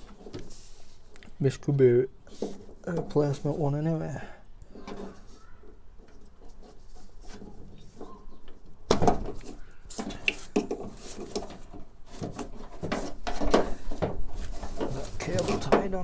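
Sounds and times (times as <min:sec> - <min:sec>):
parts knocking and rattling: 0:00.0 - 0:01.1, 0:02.2 - 0:16.0.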